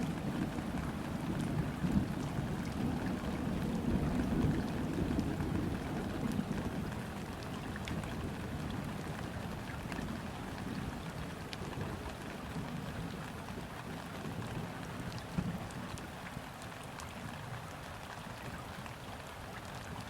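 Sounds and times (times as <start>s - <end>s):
light rain falling on river: 0.0s - 20.0s.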